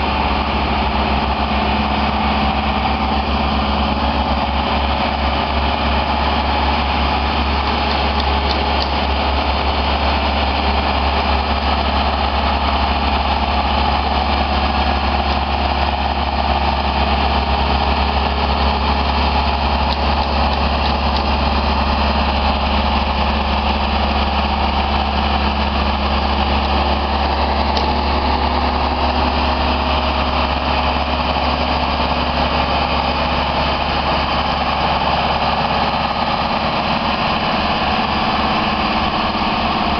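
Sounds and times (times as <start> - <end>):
boom lift engine running: 0.0 - 39.9.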